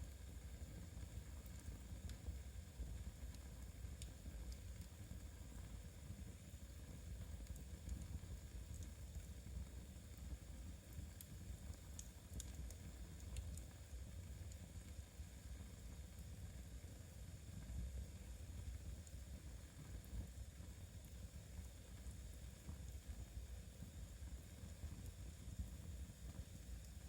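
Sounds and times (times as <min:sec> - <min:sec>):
fire crackles: 0:00.0 - 0:27.0
wood fire burning: 0:00.0 - 0:27.0.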